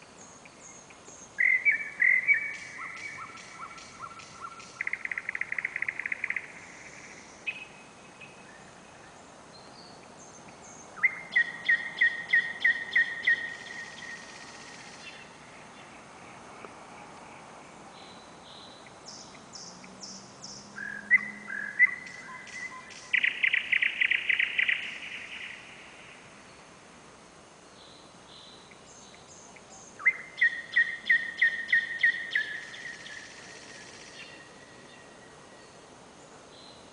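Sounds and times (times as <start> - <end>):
nightingale singing: 0.0 - 26.7, 27.7 - 36.9.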